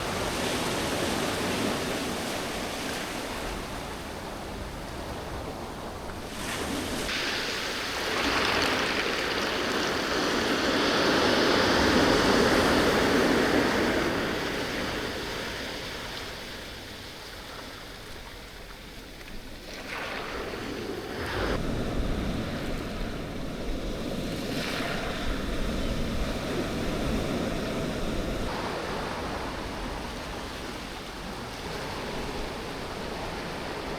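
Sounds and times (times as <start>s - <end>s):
waves breaking on a beach: 0.0s - 33.9s.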